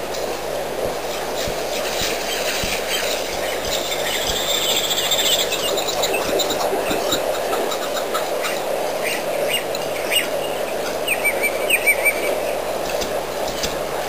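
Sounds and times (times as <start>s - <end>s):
steady hum: 0.0s - 14.0s
small birds chirping: 1.1s - 13.8s
warbling bird call: 1.4s - 12.7s.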